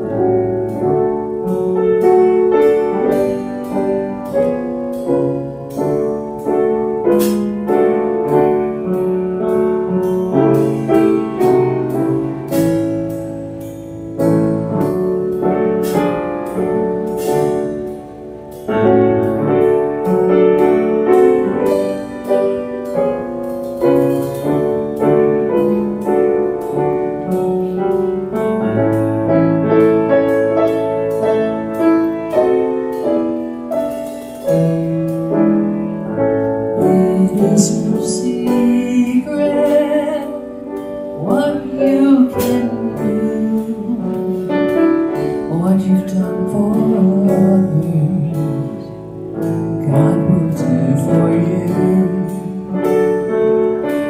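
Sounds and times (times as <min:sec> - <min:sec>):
grand piano piece: 0:00.0 - 0:54.0.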